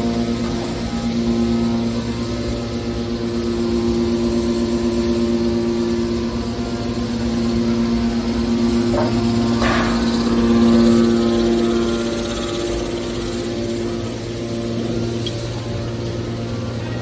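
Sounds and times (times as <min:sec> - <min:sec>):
baler motor and pump hum: 0:00.0 - 0:17.0.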